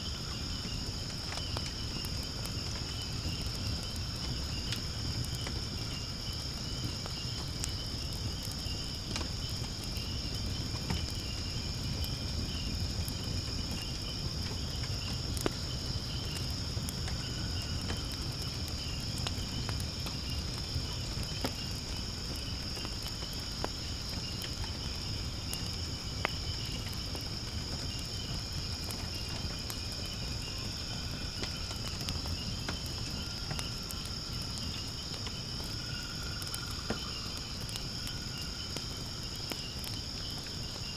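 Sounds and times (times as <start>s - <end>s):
crickets chirring: 0.0s - 40.9s
wood fire crackling and popping: 0.0s - 40.9s.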